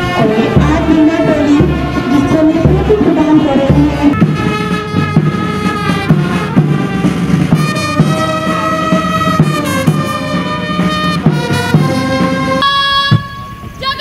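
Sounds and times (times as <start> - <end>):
brass band playing: 0.0 - 14.0.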